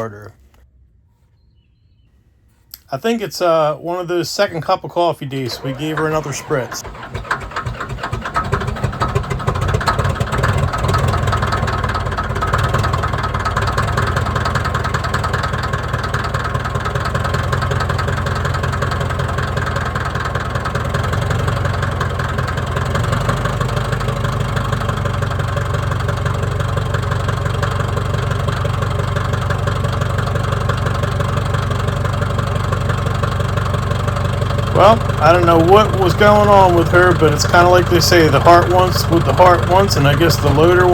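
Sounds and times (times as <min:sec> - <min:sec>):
diesel engine idling: 0:03.4 - 0:40.9.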